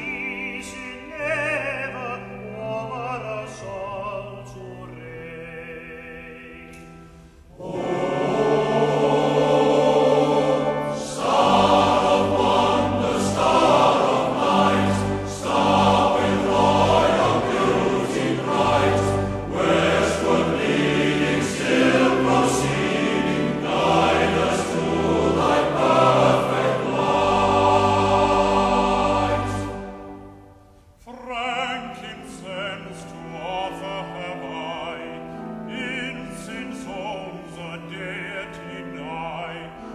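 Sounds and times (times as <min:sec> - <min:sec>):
choir singing with orchestra: 0:00.0 - 0:39.9.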